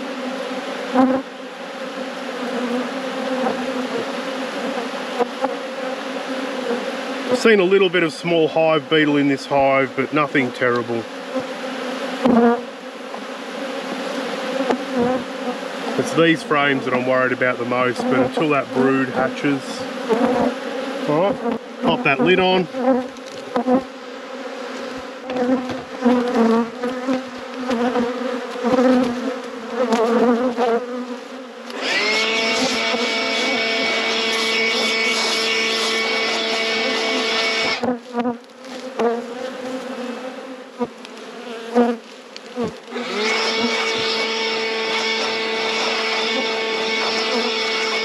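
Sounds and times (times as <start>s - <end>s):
bee hovering close by: 0.0s - 48.0s
bees buzzing: 0.0s - 48.0s.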